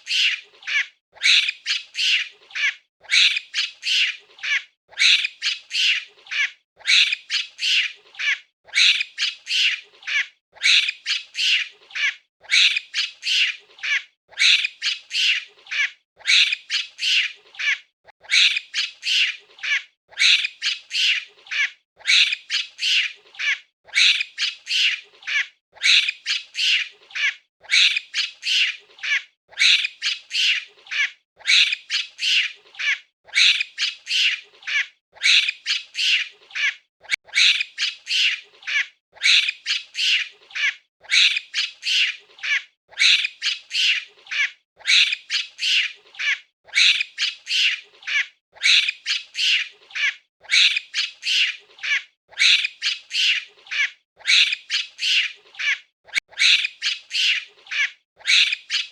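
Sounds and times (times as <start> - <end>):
monkey shrill calls: 0.0 - 58.9.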